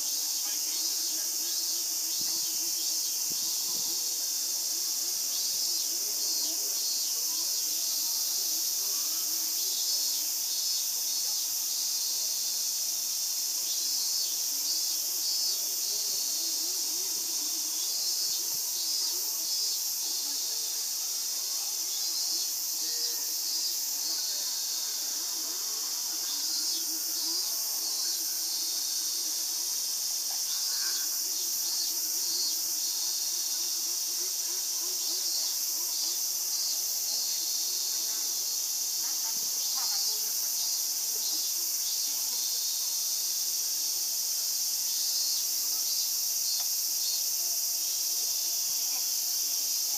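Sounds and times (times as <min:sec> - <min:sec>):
insects chirping and trilling: 0:00.0 - 0:49.9.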